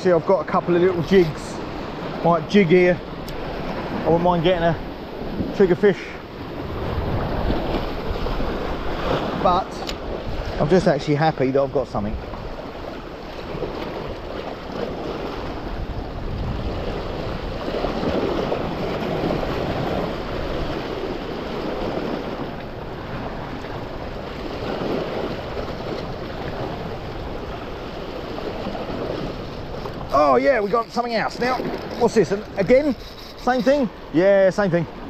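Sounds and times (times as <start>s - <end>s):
sea waves washing against rocks: 0.0s - 35.0s.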